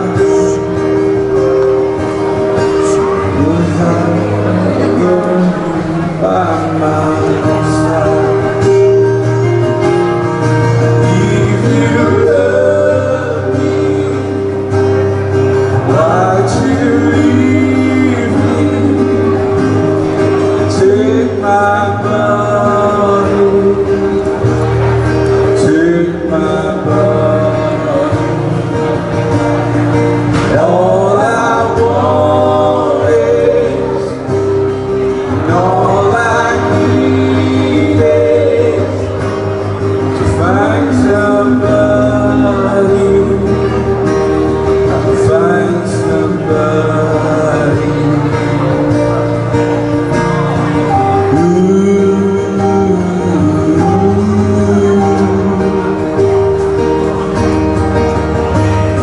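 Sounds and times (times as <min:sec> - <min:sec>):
man singing: 0:00.0 - 0:57.4
strummed acoustic guitar: 0:00.0 - 0:59.0.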